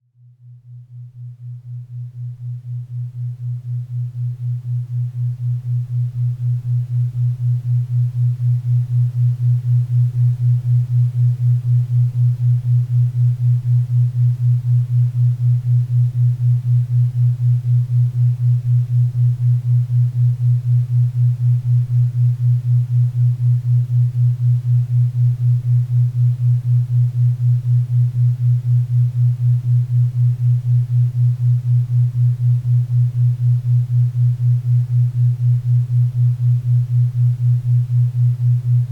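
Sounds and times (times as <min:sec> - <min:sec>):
low pulsing tone: 0:00.9 - 0:38.9.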